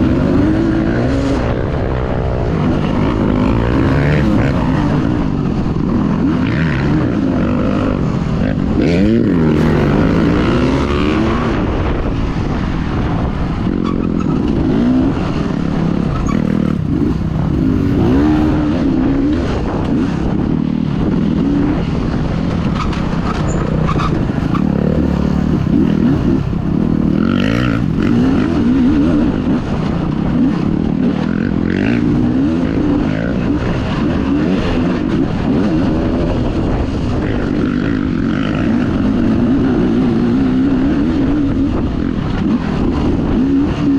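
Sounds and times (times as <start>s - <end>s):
dirt bike engine revving: 0.0s - 12.0s, 12.6s - 43.9s.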